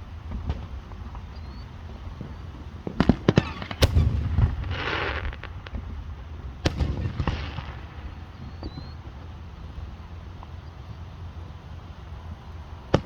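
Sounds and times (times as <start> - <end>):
fireworks banging: 0.0 - 11.0
fireworks hissing crackle: 0.0 - 13.0.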